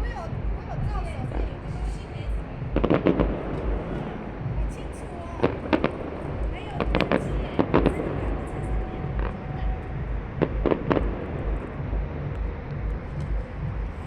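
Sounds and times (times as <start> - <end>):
fireworks bangs: 0.0 - 14.0
low outdoor rumble: 0.0 - 14.0.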